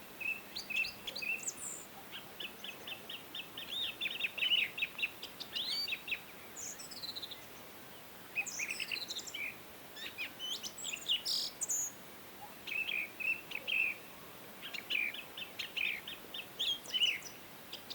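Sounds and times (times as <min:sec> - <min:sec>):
faint background hiss: 0:00.0 - 0:17.9
songbirds chirping and calling: 0:00.2 - 0:17.9.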